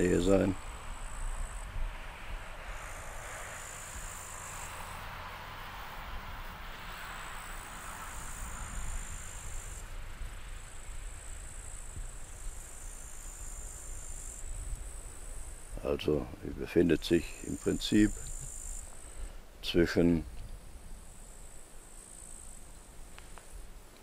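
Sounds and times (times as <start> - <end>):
crickets trilling: 0.0 - 23.9
faint steady hiss: 0.0 - 24.0.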